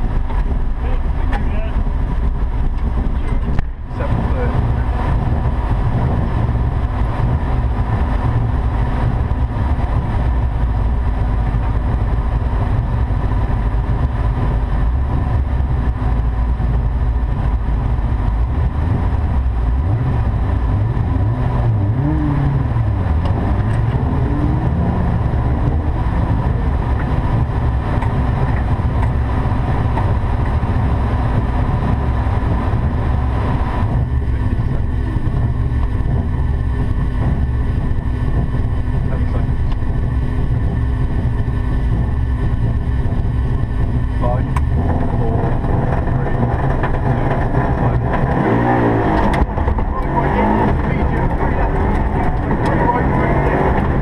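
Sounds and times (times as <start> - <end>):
car engine idling from inside cabin: 0.0 - 54.0.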